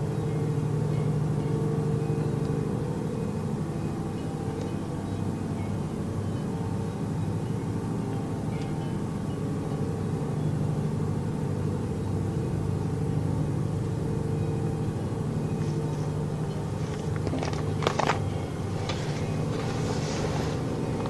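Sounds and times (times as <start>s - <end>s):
low droning hum: 0.0s - 21.0s.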